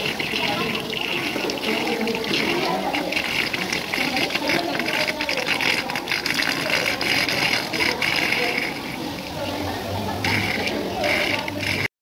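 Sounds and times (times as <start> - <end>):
indistinct voices: 0.0 - 11.9
water splashing from swimmers: 0.0 - 11.9.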